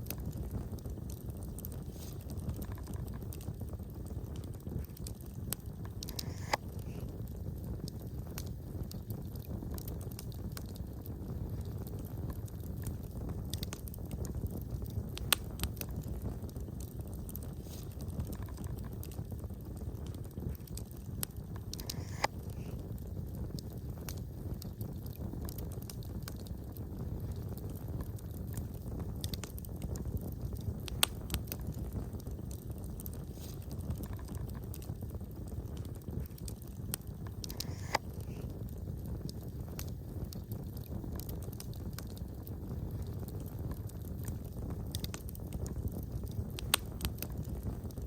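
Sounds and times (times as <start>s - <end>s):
low fire rumble: 0.0s - 48.0s
wood fire crackling and popping: 0.0s - 48.0s.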